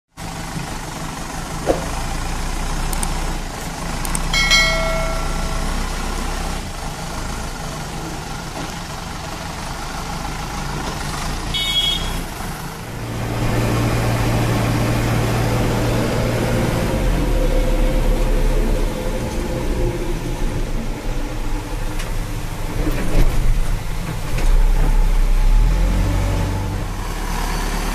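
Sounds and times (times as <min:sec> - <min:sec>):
diesel engine idling: 0:00.2 - 0:22.8.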